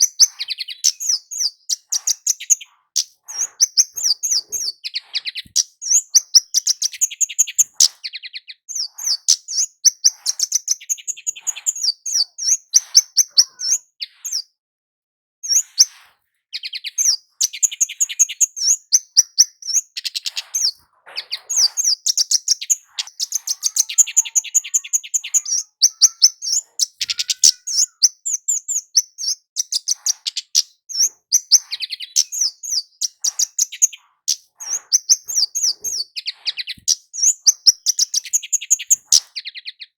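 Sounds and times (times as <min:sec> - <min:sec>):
bird singing high chirps: 0:00.0 - 0:14.5, 0:15.4 - 0:39.9.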